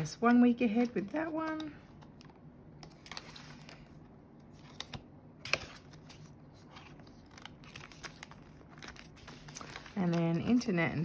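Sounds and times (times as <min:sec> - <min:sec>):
paper money and envelopes handled: 0:00.0 - 0:11.0.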